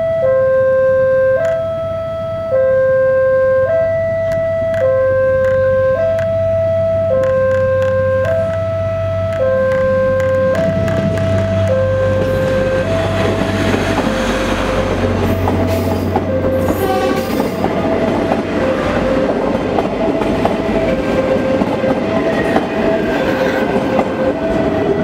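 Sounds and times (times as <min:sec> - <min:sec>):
two-tone crossing alarm: 0:00.0 - 0:25.0
low drone: 0:01.0 - 0:25.0
train passing on rails: 0:03.8 - 0:25.0.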